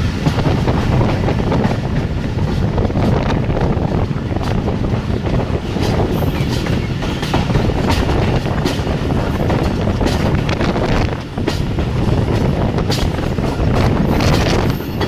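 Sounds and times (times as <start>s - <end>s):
train rumbling: 0.0s - 15.0s
wheels clacking over rail joints: 0.0s - 15.0s.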